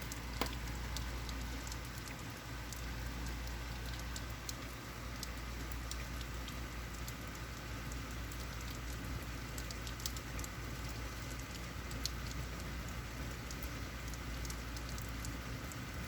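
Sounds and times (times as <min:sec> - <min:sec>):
raindrops pattering on surface: 0:00.0 - 0:16.0.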